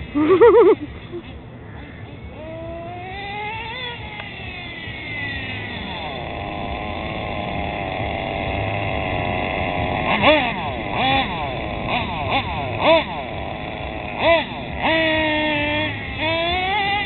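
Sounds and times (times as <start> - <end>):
model nitro engine revving and idling: 0.0 - 17.0.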